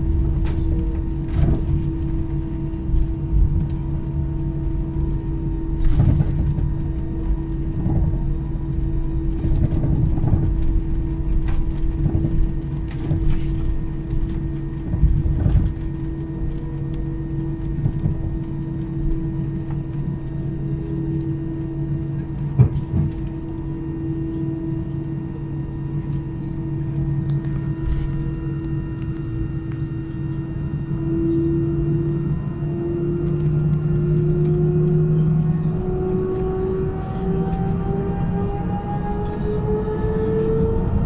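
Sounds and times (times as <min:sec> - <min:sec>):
jet engine cabin drone: 0:00.0 - 0:41.0.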